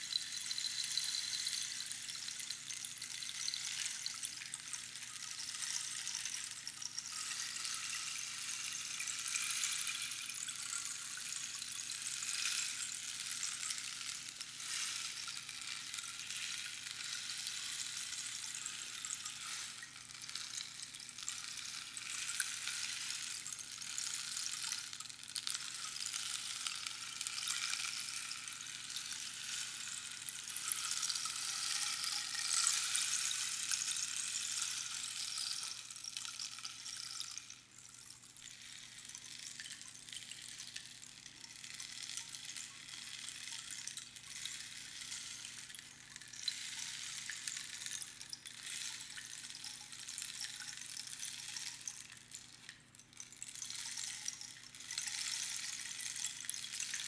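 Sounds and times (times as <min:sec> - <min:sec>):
rainstick rustling hiss: 0:00.0 - 0:57.0.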